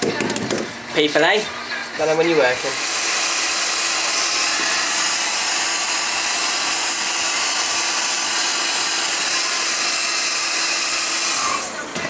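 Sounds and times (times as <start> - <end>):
heat gun blowing with hum: 2.2 - 12.0.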